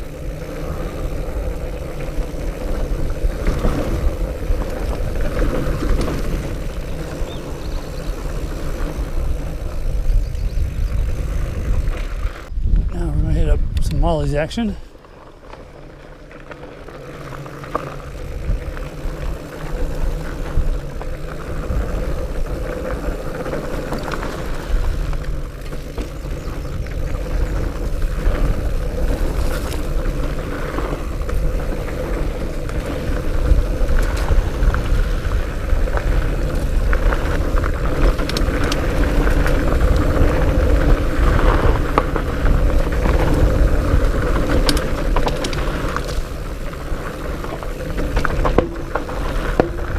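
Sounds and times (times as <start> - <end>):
bike knocks and rattles: 0.0 - 12.4, 16.9 - 49.9
fat bike tyres rumbling on dirt: 0.0 - 49.9.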